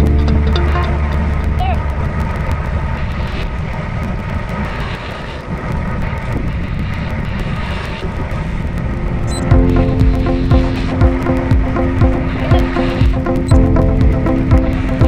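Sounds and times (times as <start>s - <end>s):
road noise: 0.0s - 13.5s
wind noise on microphone: 0.0s - 15.0s.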